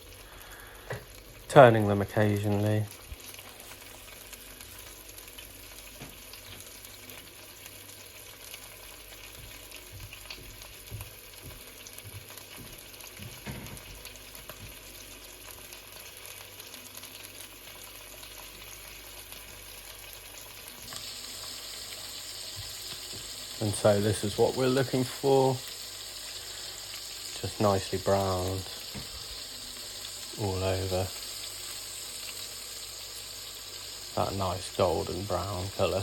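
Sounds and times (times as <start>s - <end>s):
sausages sizzling in a frying pan: 0.0s - 36.0s.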